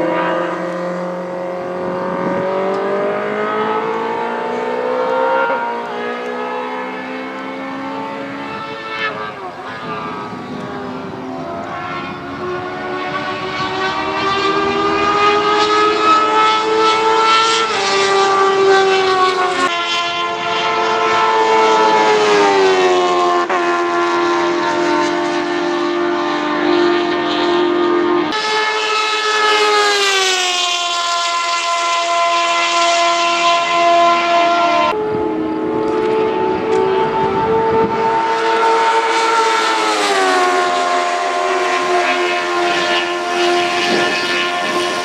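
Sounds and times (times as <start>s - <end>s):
race car engine at high revs: 0.0s - 45.0s.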